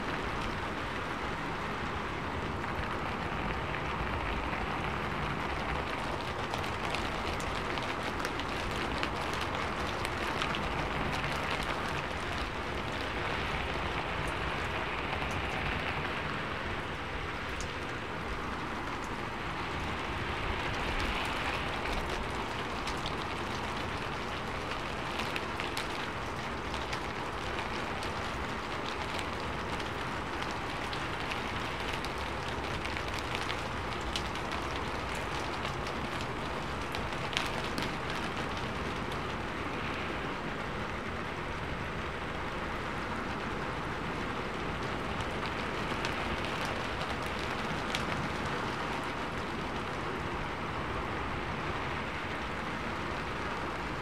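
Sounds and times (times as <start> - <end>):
rain on a rooftop: 0.0 - 54.0.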